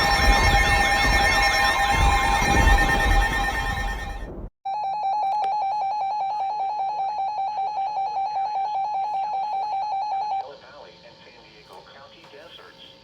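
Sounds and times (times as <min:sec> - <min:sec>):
rapid beeping tone: 0:00.0 - 0:10.4
wavering siren tone: 0:00.0 - 0:10.4.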